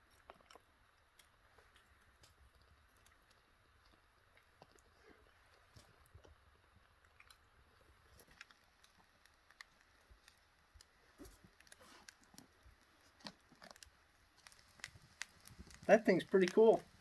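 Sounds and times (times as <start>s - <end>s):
faint clicks and crackles: 0.0s - 17.0s.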